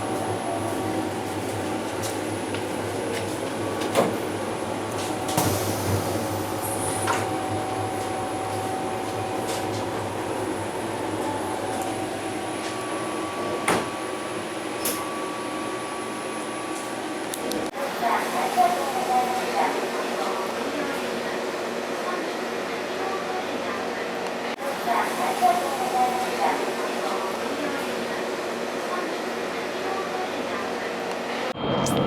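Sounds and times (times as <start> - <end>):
train cabin rumble and hiss: 0.0 - 31.5.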